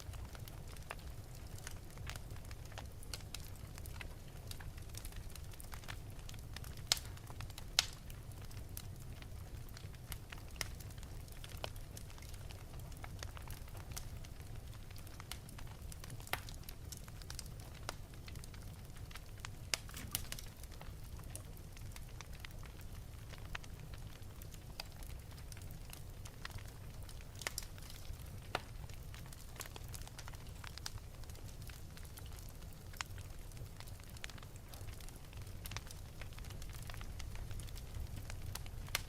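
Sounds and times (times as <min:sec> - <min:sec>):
fire low rumble: 0:00.0 - 0:39.0
wood fire crackling and popping: 0:00.0 - 0:39.0.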